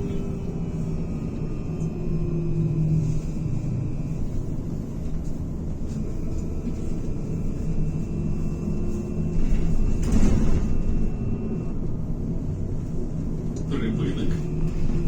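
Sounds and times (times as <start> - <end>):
road and body rumble: 0.0 - 15.0.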